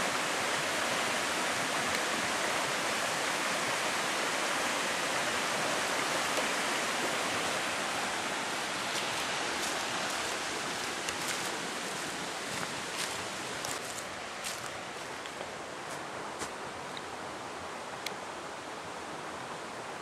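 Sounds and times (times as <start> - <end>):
rushing outdoor noise: 0.0 - 20.0.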